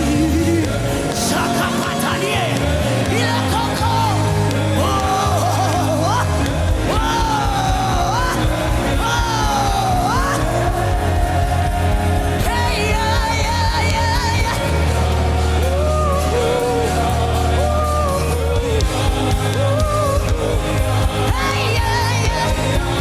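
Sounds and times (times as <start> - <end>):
keyboard and bass backing: 0.0 - 23.0.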